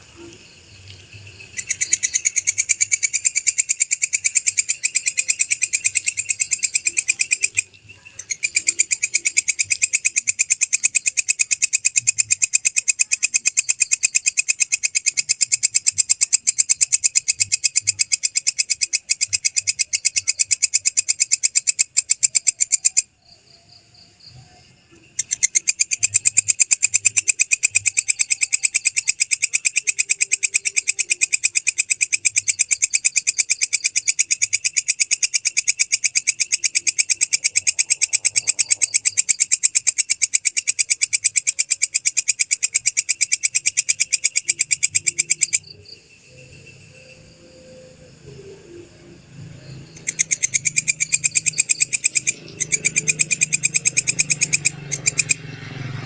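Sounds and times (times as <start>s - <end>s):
katydid chirping: 0.0s - 56.0s.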